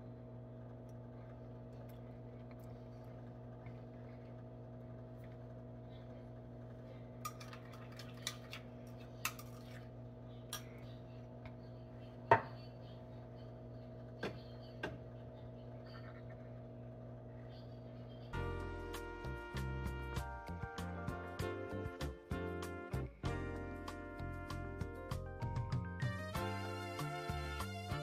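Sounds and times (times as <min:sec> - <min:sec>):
steady hum: 0:00.0 - 0:25.4.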